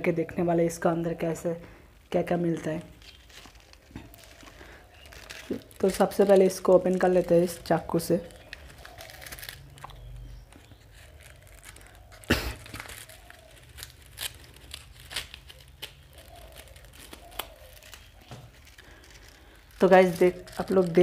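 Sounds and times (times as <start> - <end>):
paper crinkling and tearing: 2.7 - 21.0
knife cutting envelope: 3.0 - 21.0.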